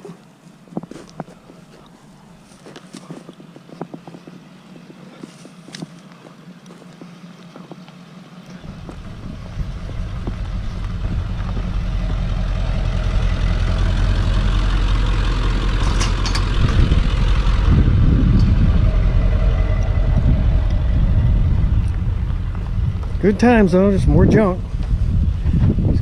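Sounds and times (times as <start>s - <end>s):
road and wind noise: 0.2s - 26.0s
truck engine running: 1.4s - 26.0s.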